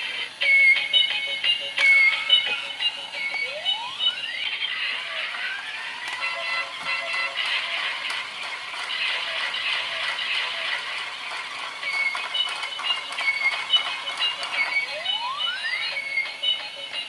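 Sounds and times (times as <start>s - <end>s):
toy electronic sound effects: 0.3s - 17.0s
beeping melody: 1.9s - 16.7s.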